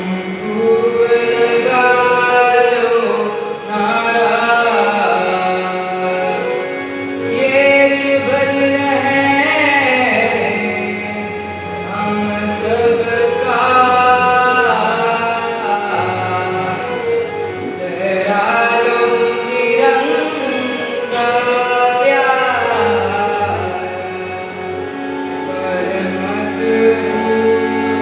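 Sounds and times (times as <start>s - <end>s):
harmonium chords: 0.0s - 28.0s
person singing: 0.0s - 28.0s.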